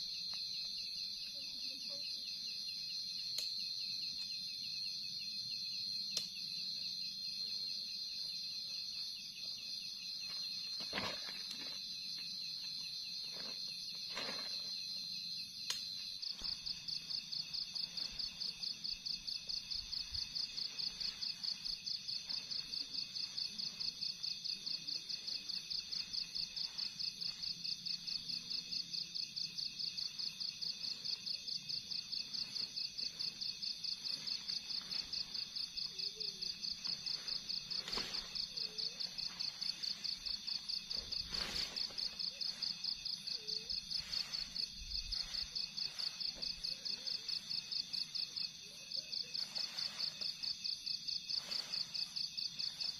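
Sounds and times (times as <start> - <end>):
insect trilling and chirping: 0.0 - 52.9.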